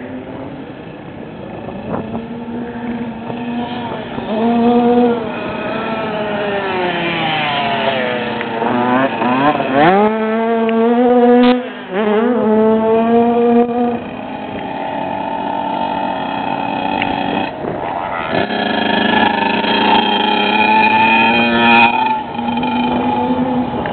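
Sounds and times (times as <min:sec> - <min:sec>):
dirt bike engines revving: 0:00.0 - 0:23.9.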